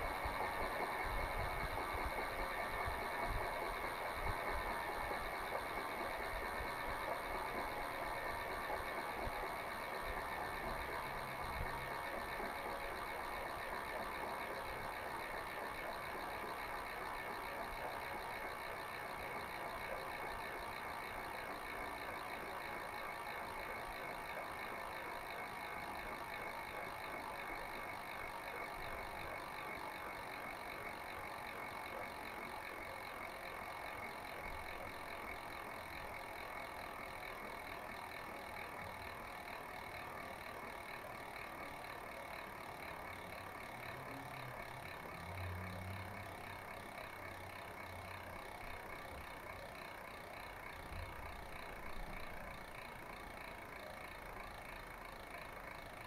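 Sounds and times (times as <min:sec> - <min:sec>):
freehub ratchet buzzing: 0:00.0 - 0:56.0.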